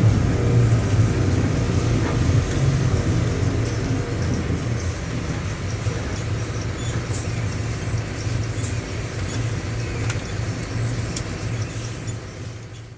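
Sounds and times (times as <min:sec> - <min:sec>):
diesel bus engine humming: 0:00.0 - 0:12.9.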